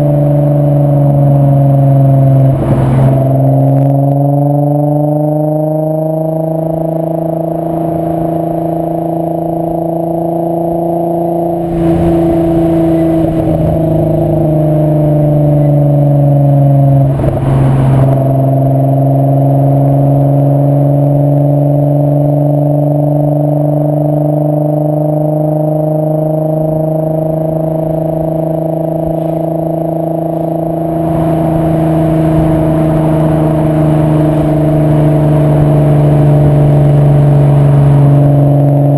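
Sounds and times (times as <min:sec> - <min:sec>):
car engine and exhaust while driving: 0:00.0 - 0:38.9.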